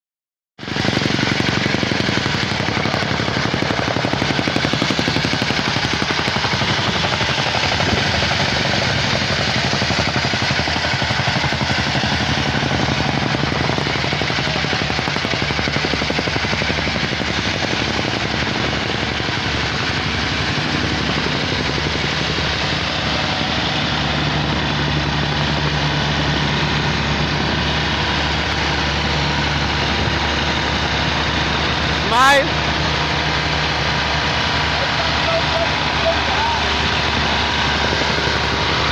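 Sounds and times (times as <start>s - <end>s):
compactor engine running: 0.6s - 38.9s
compactor rattling against ground: 0.7s - 38.9s.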